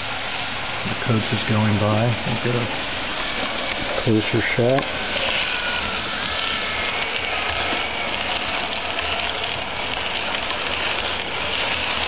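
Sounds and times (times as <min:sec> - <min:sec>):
faint wavering whine: 0:00.0 - 0:12.0
model train whirring on track: 0:00.0 - 0:12.0.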